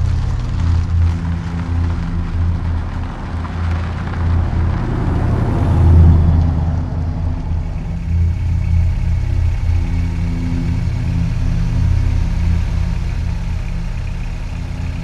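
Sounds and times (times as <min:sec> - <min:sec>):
car engine hum: 0:00.0 - 0:15.0.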